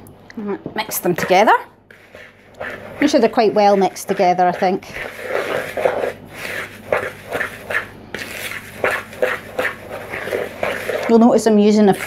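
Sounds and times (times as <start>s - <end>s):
fork stirring dry mix in bowl: 0.8s - 12.0s.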